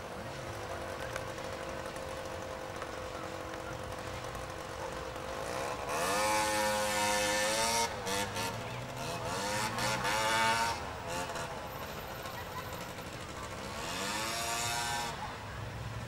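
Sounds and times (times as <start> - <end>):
moped engine passing by: 0.0 - 16.0.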